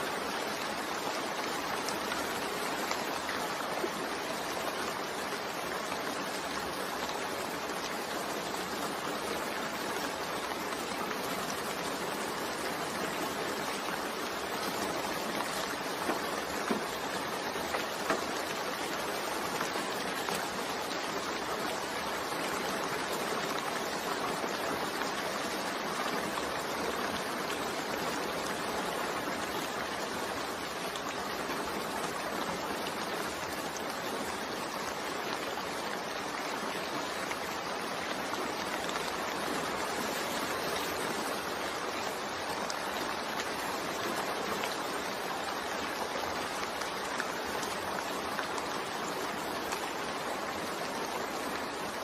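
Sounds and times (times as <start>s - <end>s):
rain drops ticking: 0.0s - 52.0s
steady rain: 0.0s - 52.0s.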